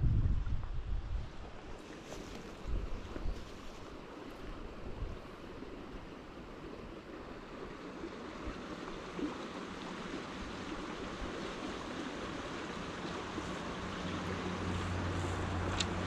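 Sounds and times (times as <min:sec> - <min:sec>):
creek water rushing: 0:01.2 - 0:16.0.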